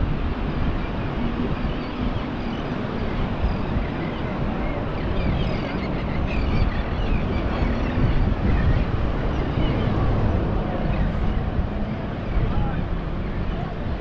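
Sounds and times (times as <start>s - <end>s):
heavy wind noise: 0.0s - 14.0s
vehicle road rumble: 0.0s - 14.0s.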